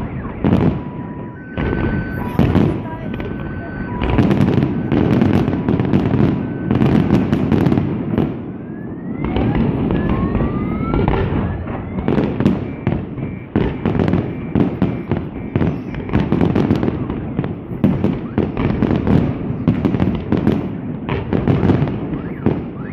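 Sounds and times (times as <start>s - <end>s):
fireworks cracking and booming: 0.0s - 22.9s
rising firework whistles: 0.0s - 22.9s.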